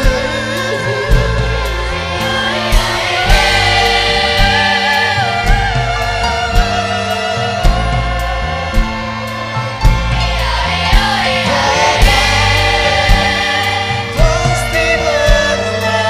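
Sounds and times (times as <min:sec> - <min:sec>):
children's choir singing: 0:00.0 - 0:16.0
french horn: 0:00.0 - 0:16.0
orchestra playing: 0:00.0 - 0:16.0
steady beat: 0:00.0 - 0:16.0
strings: 0:00.0 - 0:16.0.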